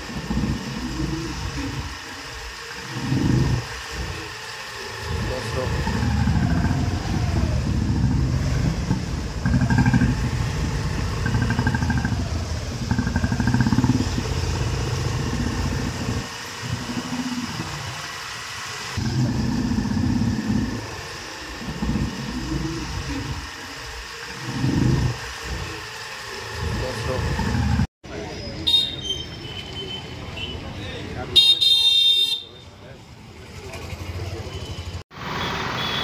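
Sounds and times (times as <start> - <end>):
motorcycle engines: 0.0 - 36.0.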